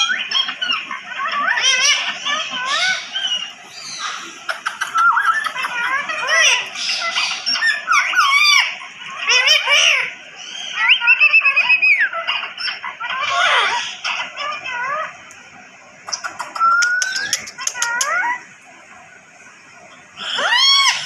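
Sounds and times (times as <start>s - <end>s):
parrot whistling and squawking: 0.0s - 15.2s, 16.1s - 18.5s, 20.2s - 21.0s.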